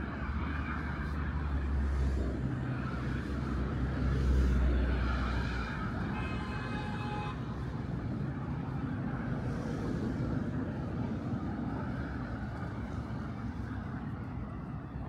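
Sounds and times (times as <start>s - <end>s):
heavy vehicle engine rumble: 0.0s - 15.0s
street traffic noise: 0.0s - 15.0s.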